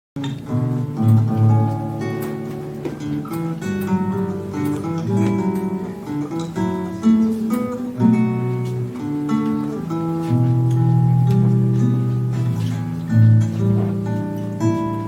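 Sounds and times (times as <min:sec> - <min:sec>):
classical guitars playing: 0:00.2 - 0:15.0.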